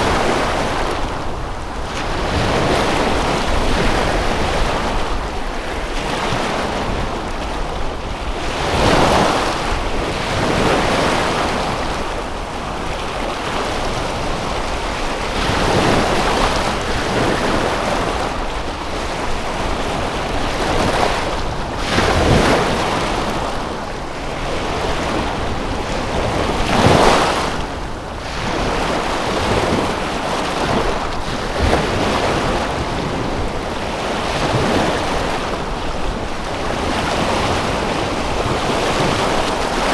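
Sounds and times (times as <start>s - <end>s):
lake waves washing on shore: 0.0s - 39.9s
wind: 0.0s - 39.9s.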